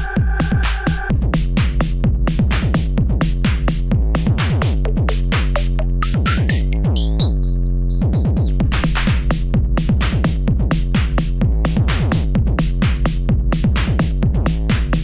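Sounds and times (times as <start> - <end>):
drum machine beat: 0.0 - 15.0.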